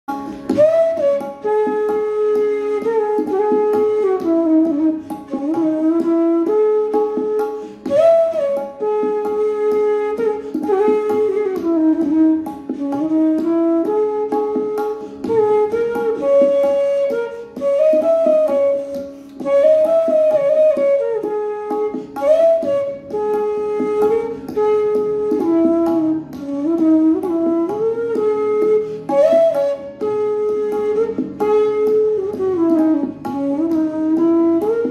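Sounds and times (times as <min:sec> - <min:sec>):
bamboo flute melody: 0:00.1 - 0:34.9.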